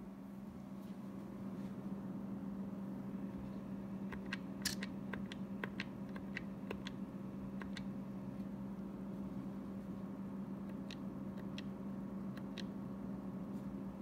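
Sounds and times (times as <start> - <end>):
machine hum with cooling fan: 0.0 - 14.0.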